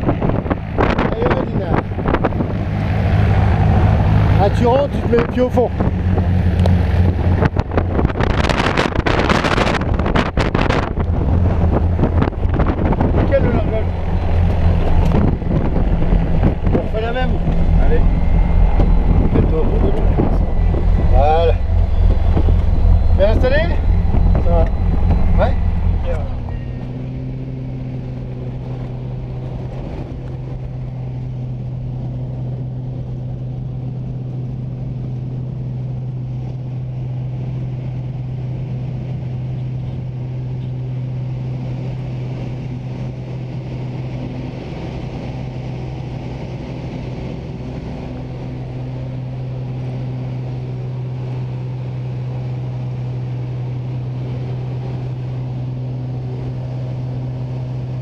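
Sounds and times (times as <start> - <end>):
propeller plane engine droning: 0.0 - 58.0
rushing air noise: 0.0 - 58.0.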